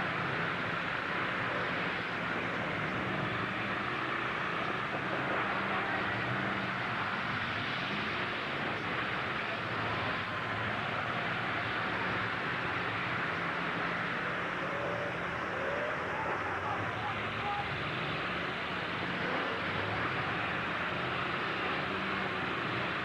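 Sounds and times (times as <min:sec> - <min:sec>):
truck engines droning: 0:00.0 - 0:23.0.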